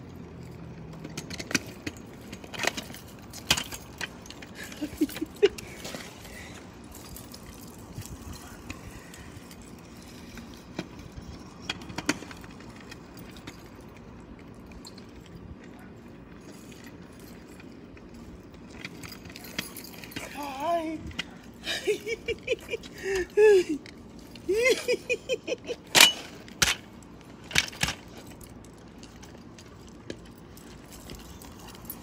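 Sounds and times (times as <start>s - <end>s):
outdoor background noise: 0.0s - 32.0s
keys jangling: 0.3s - 32.0s.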